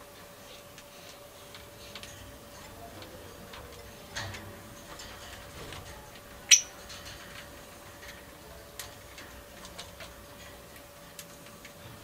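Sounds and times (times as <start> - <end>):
faint steady hum: 0.0 - 12.0
budgies clicking and tapping: 1.4 - 11.7.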